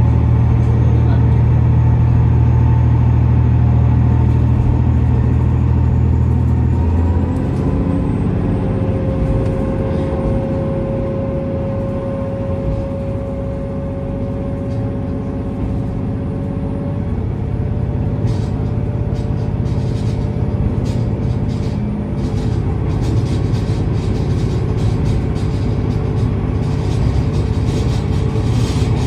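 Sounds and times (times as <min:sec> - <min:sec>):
diesel engine drone: 0:00.0 - 0:29.0
rumbling train running noise: 0:00.0 - 0:29.0
steady whine: 0:03.7 - 0:29.0.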